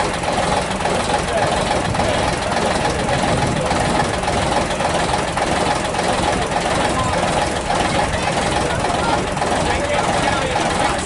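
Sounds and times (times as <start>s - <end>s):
diesel bus engine idling: 0.0s - 11.0s
people talking: 0.8s - 4.9s, 5.5s - 11.0s.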